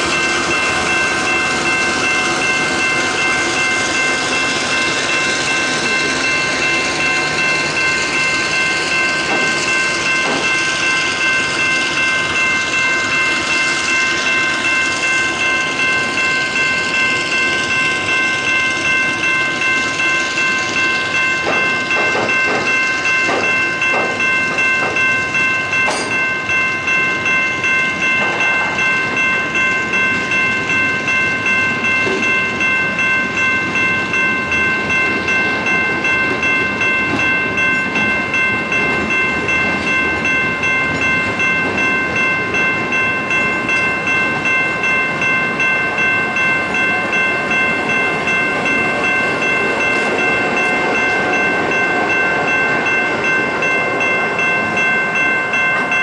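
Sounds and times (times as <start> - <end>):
level crossing bell ringing: 0.0 - 56.0
train wagons rolling on rails: 0.0 - 56.0.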